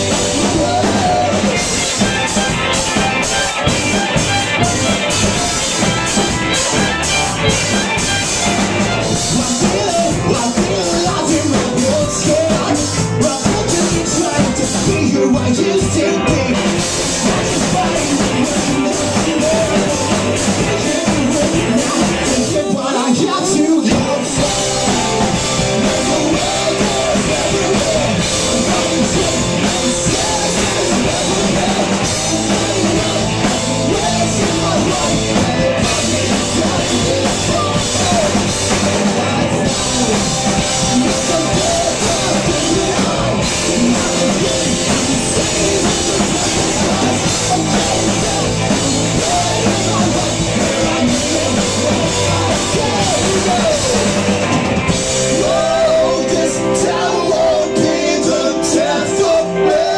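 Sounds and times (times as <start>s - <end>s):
drum kit: 0.0s - 59.9s
electric guitars: 0.0s - 59.9s
person singing: 0.0s - 59.9s.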